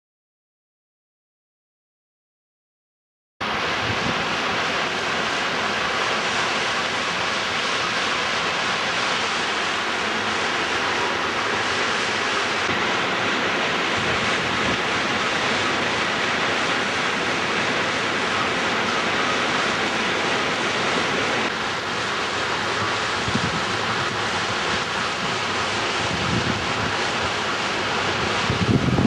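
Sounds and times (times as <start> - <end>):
driving rain: 3.4 - 29.0
strong wind through trees: 3.4 - 29.0.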